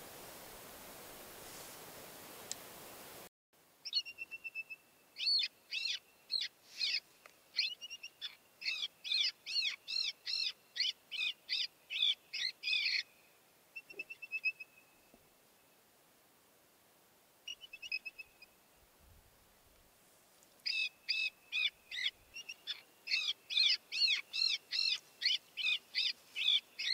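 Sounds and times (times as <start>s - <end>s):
faint hiss: 0.0s - 26.9s.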